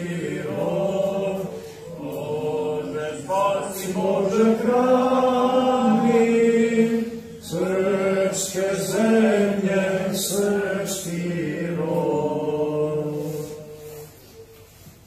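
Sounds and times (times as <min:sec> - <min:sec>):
voices singing a slow chant: 0:00.0 - 0:15.0.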